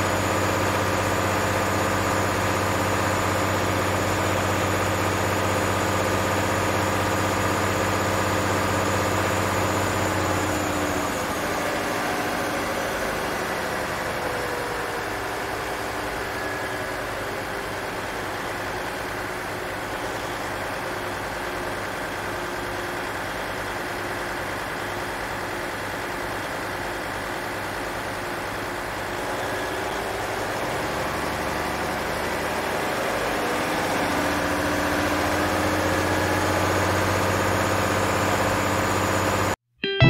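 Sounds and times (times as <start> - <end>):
engine running: 0.0 - 39.6.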